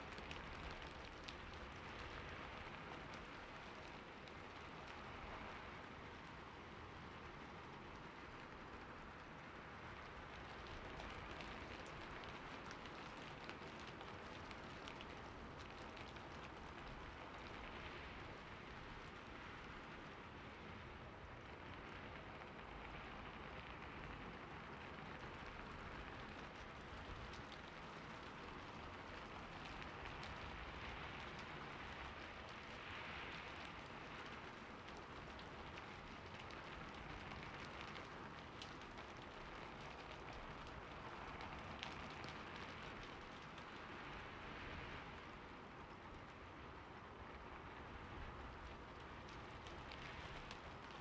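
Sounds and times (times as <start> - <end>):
rain on a roof: 0.0 - 51.0.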